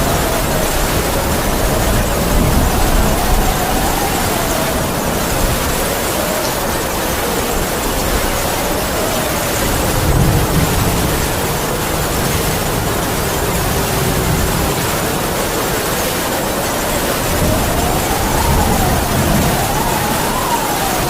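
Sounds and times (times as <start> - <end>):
heavy rain: 0.0 - 21.0
wind howling: 0.0 - 21.0.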